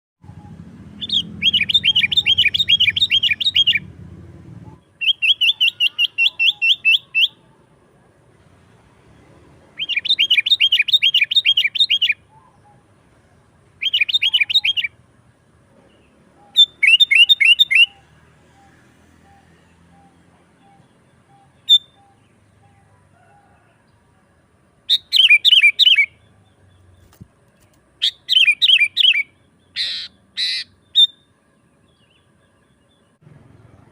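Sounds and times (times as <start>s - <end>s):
bird singing rapid notes: 0.2s - 7.6s, 9.7s - 15.1s, 15.8s - 23.0s, 24.9s - 33.9s.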